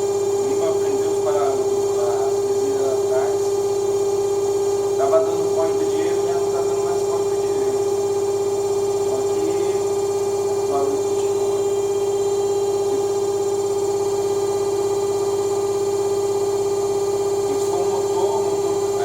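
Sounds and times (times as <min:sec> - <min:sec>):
washer-dryer spin hum: 0:00.0 - 0:19.0.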